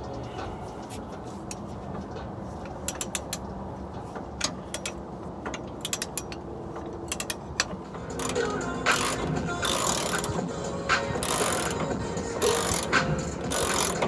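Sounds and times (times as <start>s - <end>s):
ratchet wrench clicking: 2.6s - 14.0s.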